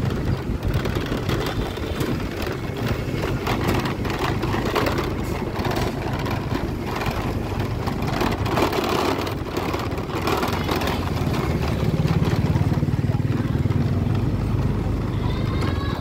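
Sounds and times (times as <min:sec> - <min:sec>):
small vehicle engine running: 0:00.0 - 0:16.0
street traffic: 0:00.0 - 0:16.0.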